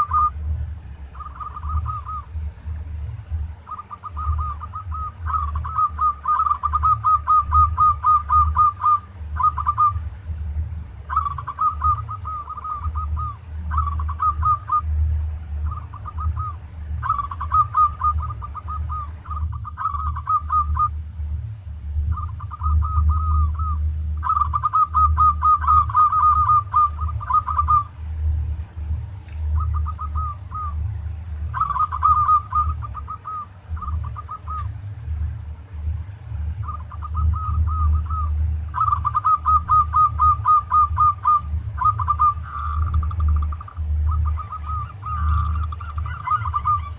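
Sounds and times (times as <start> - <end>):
dove cooing: 0.0 - 28.1, 29.0 - 46.9
steady low hum: 0.0 - 46.9.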